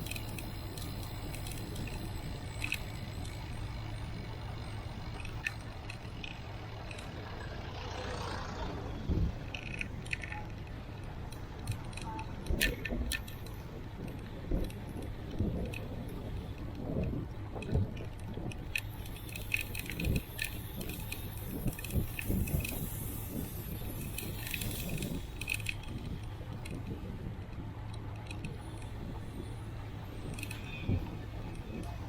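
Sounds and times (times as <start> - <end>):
bicycle rattling and jingling: 0.0 - 32.0
wind and road rumble: 0.0 - 32.0.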